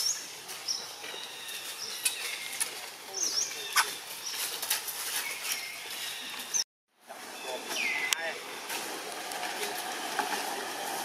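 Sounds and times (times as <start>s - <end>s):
rustles: 0.0s - 11.0s.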